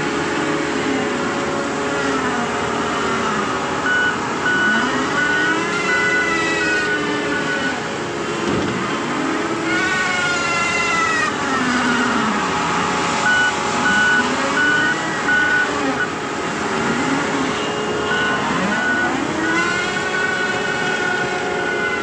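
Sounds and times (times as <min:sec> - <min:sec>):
heavy machine diesel engine: 0:00.0 - 0:22.0
reversing alarm beeping: 0:02.8 - 0:08.6, 0:09.5 - 0:22.0.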